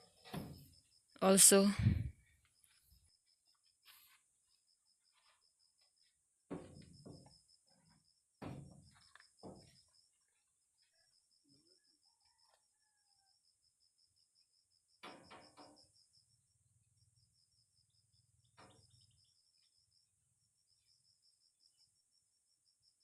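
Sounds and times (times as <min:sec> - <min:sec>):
faint insect chirping: 0:00.0 - 0:23.0.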